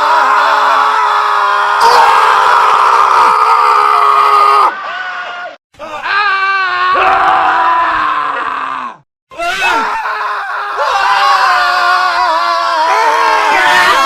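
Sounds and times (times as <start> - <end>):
men screaming: 0.0 - 14.0.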